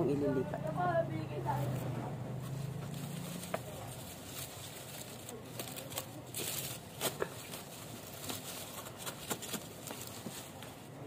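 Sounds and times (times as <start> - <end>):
leaves rustling: 1.4 - 11.0.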